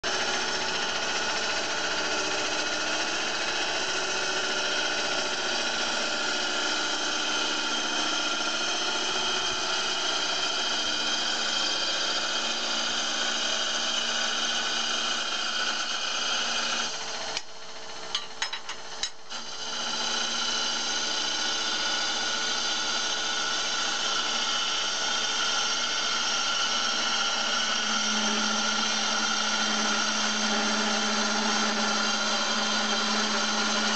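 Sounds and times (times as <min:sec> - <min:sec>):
cutter cutting wood: 0:00.0 - 0:33.9
lathe hum: 0:00.0 - 0:33.9.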